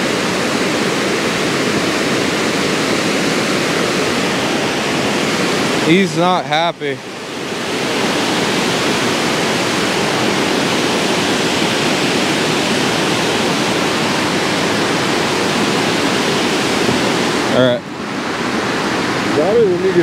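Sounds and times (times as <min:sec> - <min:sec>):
water pouring over dam spillway: 0:00.0 - 0:20.0.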